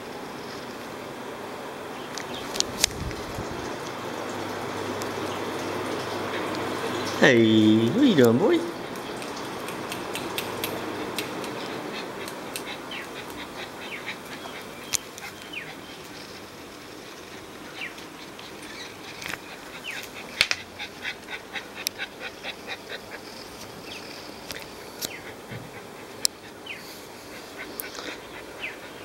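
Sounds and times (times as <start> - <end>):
puppy paws clicking and scuffling: 2.1 - 29.0.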